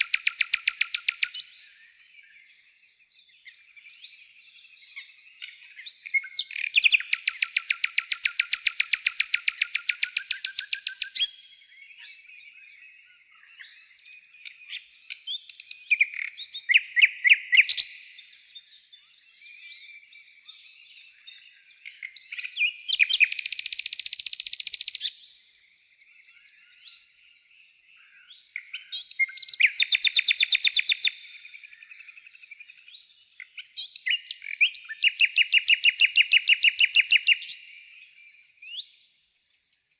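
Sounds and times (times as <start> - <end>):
songbird warbling and trilling: 0.0 - 39.2.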